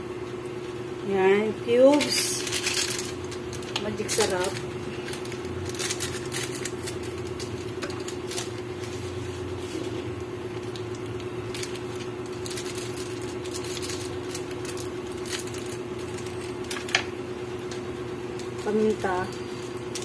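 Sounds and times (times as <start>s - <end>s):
steady low hum: 0.0s - 20.0s
sachet crinkling: 2.0s - 20.0s.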